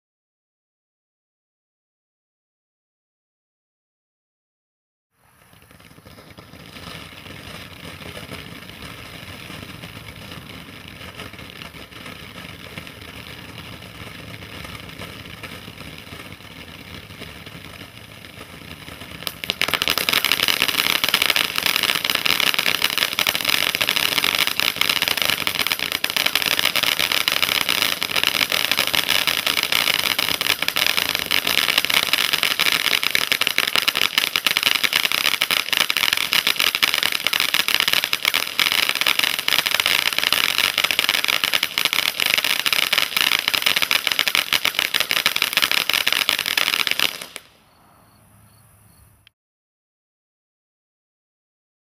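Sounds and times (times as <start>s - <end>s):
firework fountain hissing and crackling: 5.2s - 47.5s.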